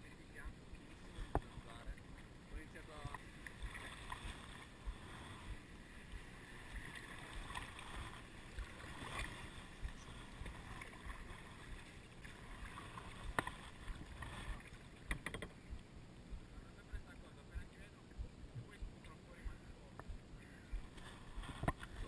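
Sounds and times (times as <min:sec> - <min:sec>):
low steady rumble: 0:00.0 - 0:22.0
water lapping around kayak: 0:00.0 - 0:22.0.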